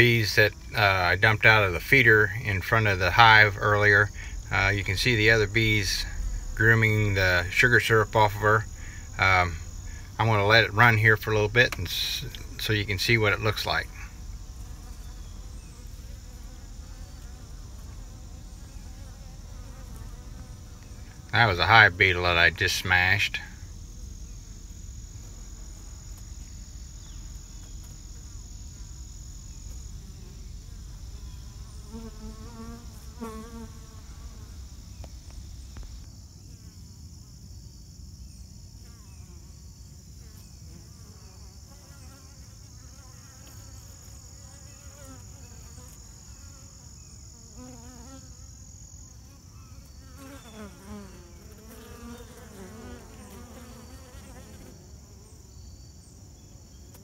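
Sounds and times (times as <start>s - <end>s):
honeybees buzzing: 0.0s - 36.1s, 38.7s - 57.0s
high-pitched insect trill: 0.0s - 57.0s.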